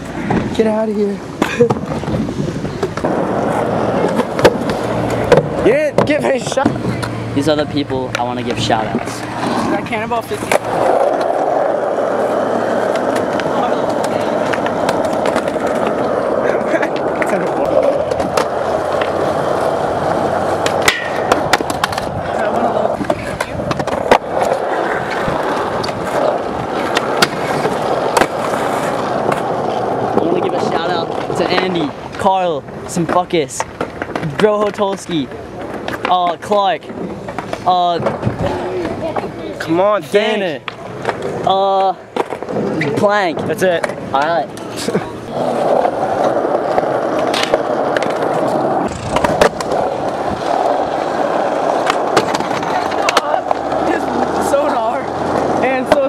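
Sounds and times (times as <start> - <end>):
skateboard wheels rolling on asphalt: 0.0 - 56.0
skateboards clacking on ground: 0.0 - 56.0.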